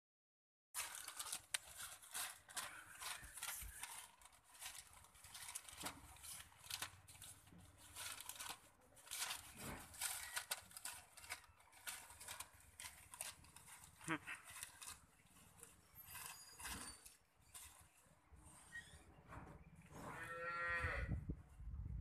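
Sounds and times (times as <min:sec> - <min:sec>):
newspaper crinkling and rustling: 0:00.8 - 0:19.1.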